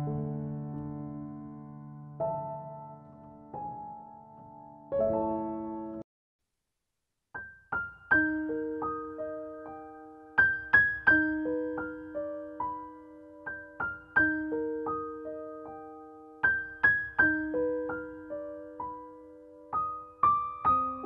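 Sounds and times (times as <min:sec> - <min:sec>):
piano music: 0:00.0 - 0:06.0, 0:07.7 - 0:21.0.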